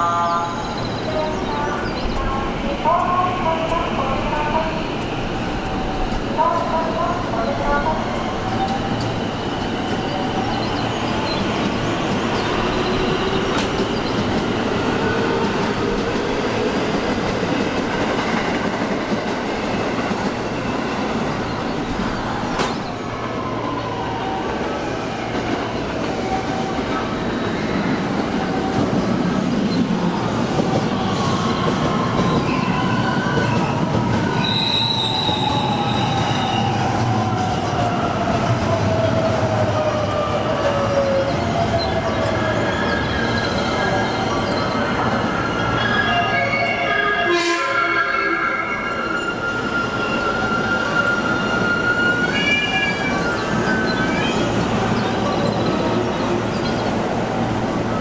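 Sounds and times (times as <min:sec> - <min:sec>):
train wheels rumbling on rail: 0:00.0 - 0:46.2, 0:48.8 - 0:58.0.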